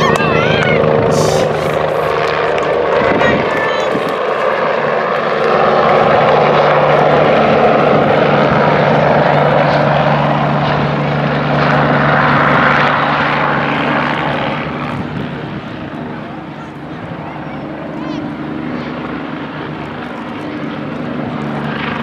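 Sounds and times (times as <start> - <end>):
engine drone: 0.0 - 22.0.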